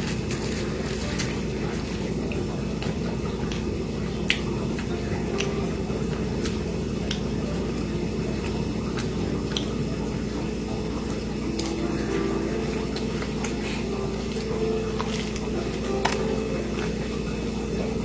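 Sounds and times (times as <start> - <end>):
steady low hum: 0.0 - 18.0
wet squishy chewing: 0.0 - 18.0.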